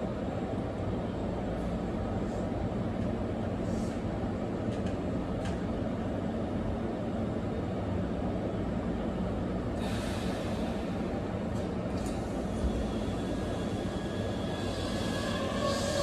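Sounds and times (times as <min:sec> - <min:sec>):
electric train equipment humming: 0:00.1 - 0:16.0.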